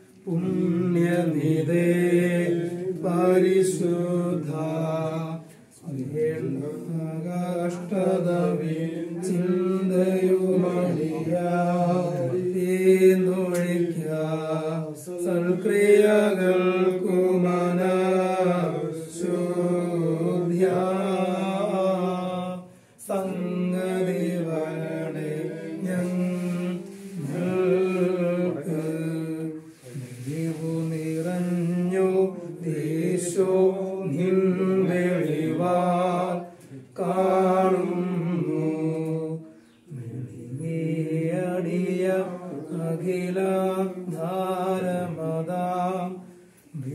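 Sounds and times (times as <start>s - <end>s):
voices singing a slow hymn: 0.0s - 46.9s.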